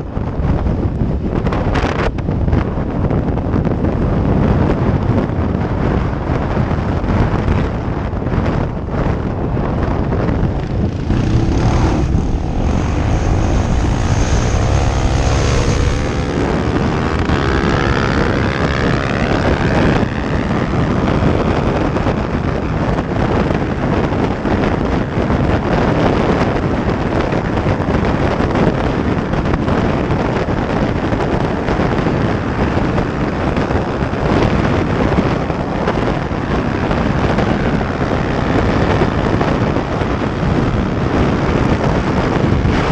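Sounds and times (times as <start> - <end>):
motorcycle engines running: 0.0 - 42.9
wind buffeting microphone: 0.0 - 42.9.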